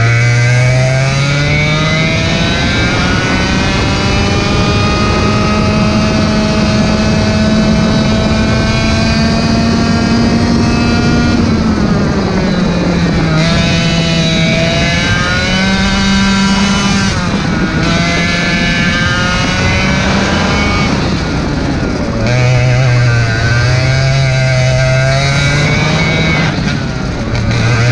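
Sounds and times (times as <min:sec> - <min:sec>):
kart engine revving: 0:00.0 - 0:27.9.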